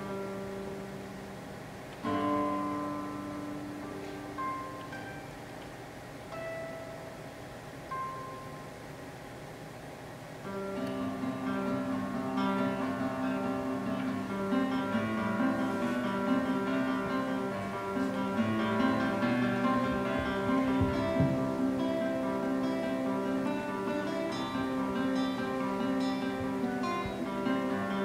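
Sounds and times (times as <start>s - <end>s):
classical guitar playing: 0.0s - 9.0s, 10.4s - 28.0s.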